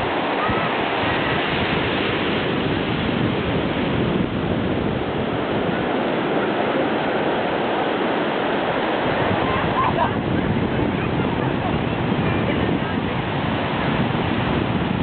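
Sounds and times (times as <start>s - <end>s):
surf breaking on sandy beach: 0.0s - 15.0s.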